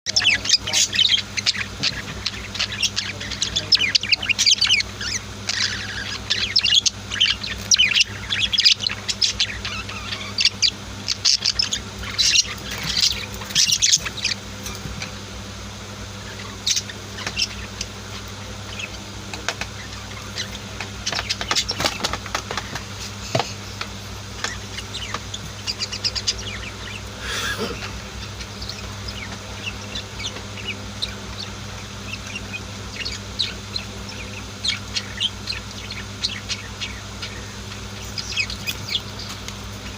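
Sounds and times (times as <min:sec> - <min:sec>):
budgies chirping: 0:00.1 - 0:39.9
low steady hum: 0:00.1 - 0:39.9.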